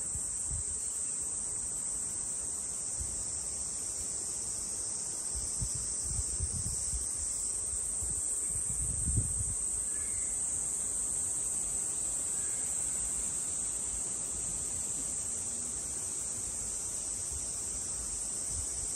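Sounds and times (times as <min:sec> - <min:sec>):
insects droning: 0:00.0 - 0:18.9.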